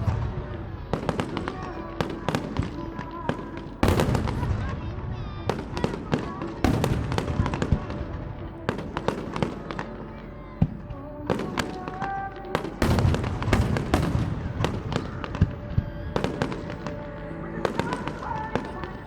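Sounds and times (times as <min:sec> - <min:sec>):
continuous fireworks rumble: 0:00.0 - 0:19.0
fireworks bangs: 0:00.0 - 0:19.0.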